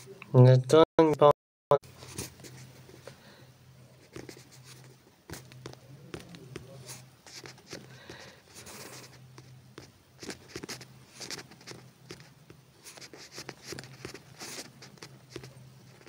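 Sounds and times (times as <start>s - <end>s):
low steady hum: 1.9s - 16.0s.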